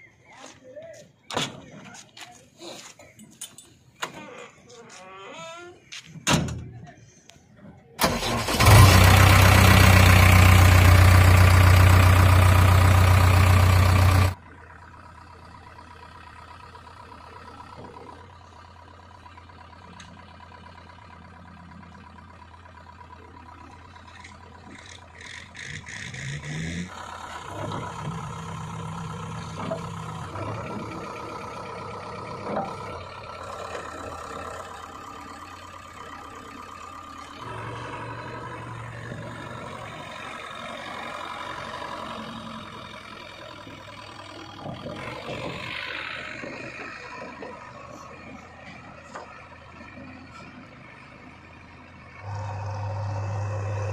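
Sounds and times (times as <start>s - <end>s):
diesel engine idling: 6.8s - 53.9s
diesel engine starting up: 6.8s - 53.9s.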